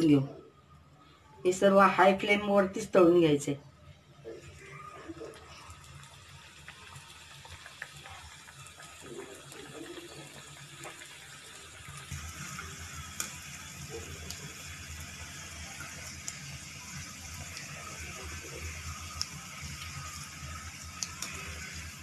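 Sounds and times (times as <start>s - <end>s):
deep-frying sizzle with pops: 4.4s - 22.0s.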